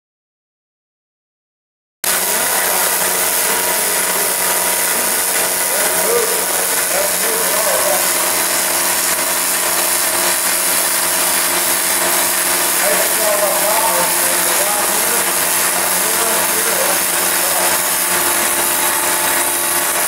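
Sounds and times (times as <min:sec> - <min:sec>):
welding arc crackling hiss: 0:02.0 - 0:20.0.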